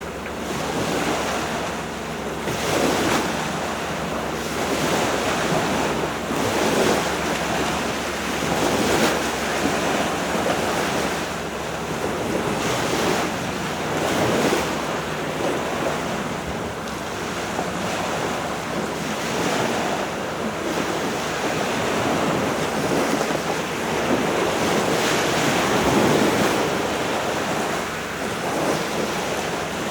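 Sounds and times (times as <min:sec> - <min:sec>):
sea surf rushing: 0:00.0 - 0:29.9
wind buffeting microphone: 0:00.0 - 0:29.9.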